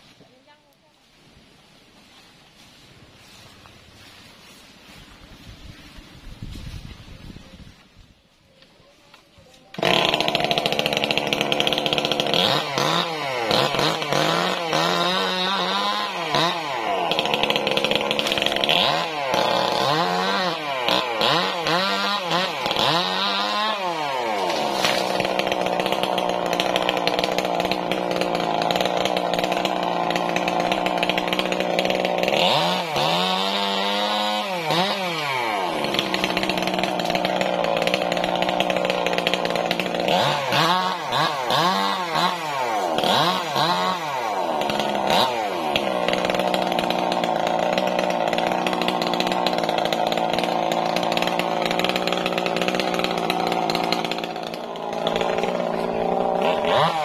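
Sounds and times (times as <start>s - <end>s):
chainsaw running: 9.5s - 57.0s.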